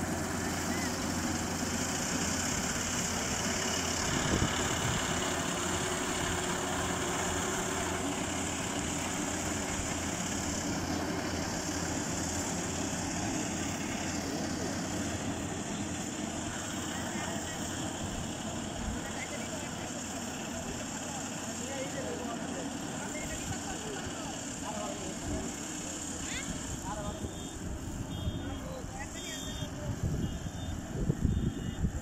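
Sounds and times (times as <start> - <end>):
combine harvester engine and threshing: 0.0 - 32.0.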